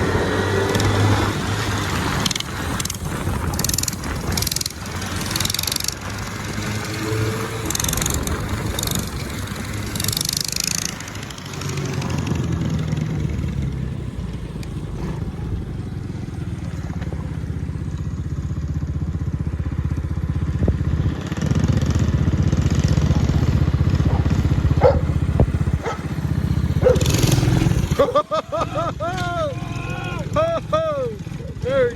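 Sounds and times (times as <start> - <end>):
minibike engine revving: 0.0 - 31.9.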